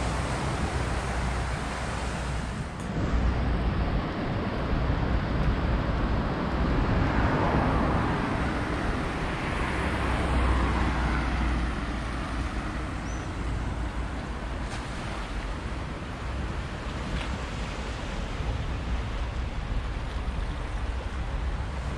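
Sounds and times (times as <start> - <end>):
wind rumble on microphone: 0.0 - 21.9.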